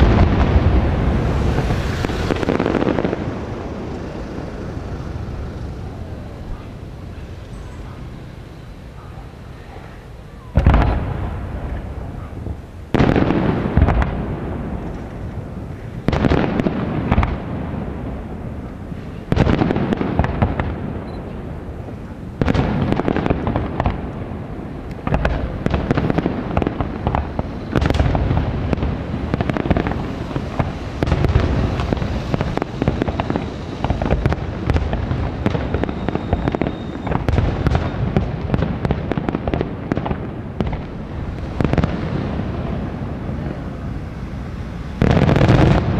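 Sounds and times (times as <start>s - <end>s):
firework crackling: 0.0s - 45.9s.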